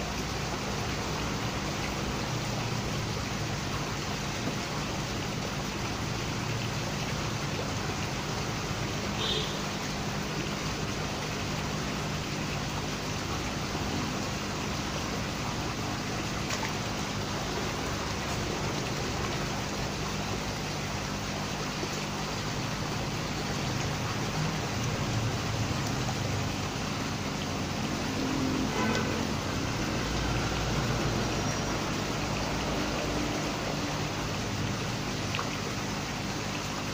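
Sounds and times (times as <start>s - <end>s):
water churning and bubbling: 0.0s - 36.9s.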